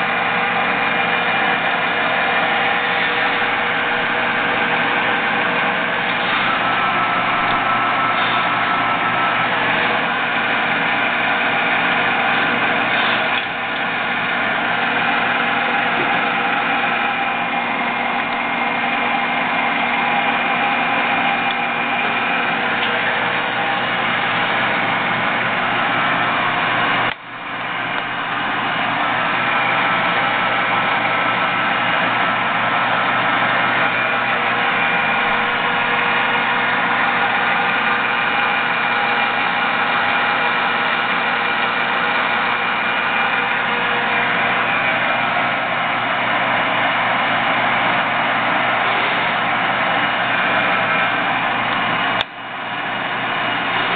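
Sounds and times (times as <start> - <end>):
lathe motor humming: 0.0 - 53.9.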